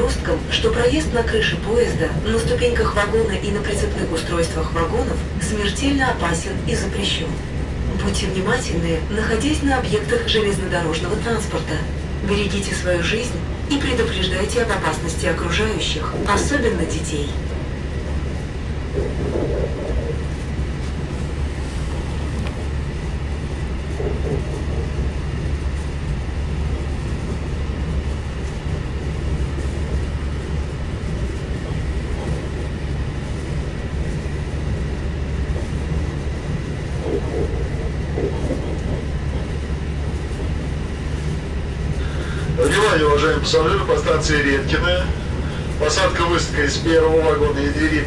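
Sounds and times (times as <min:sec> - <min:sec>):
train rumble inside carriage: 0:00.0 - 0:48.0.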